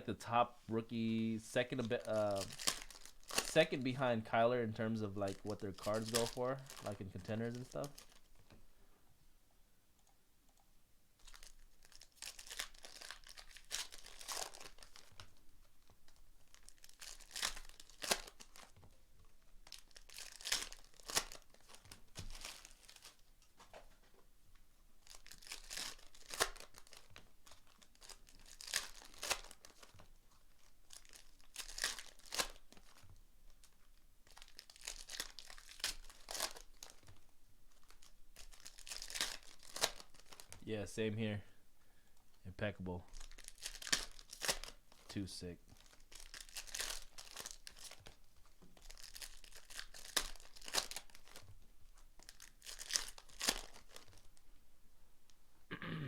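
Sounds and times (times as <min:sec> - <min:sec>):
wrappers tearing and crinkling: 0:01.0 - 0:04.1, 0:04.8 - 0:08.3, 0:11.2 - 0:23.3, 0:25.0 - 0:40.6, 0:43.1 - 0:54.4.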